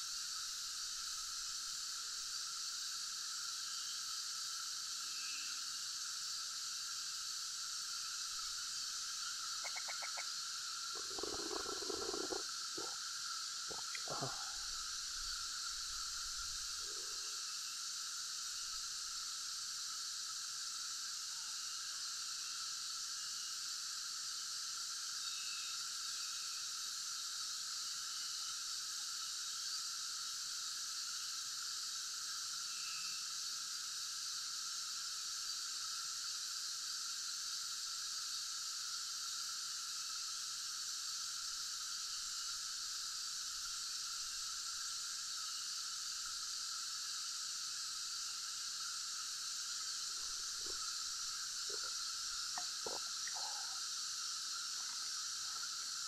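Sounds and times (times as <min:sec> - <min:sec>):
insects buzzing drone: 0:00.0 - 0:56.0.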